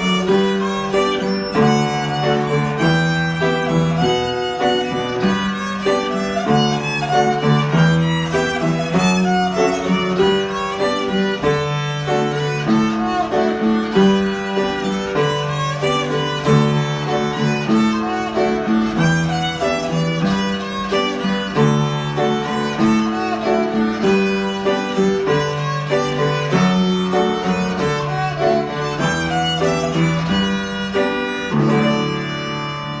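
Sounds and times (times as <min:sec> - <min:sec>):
lower accompaniment: 0:00.0 - 0:33.0
violin playing folk tune: 0:00.0 - 0:33.0.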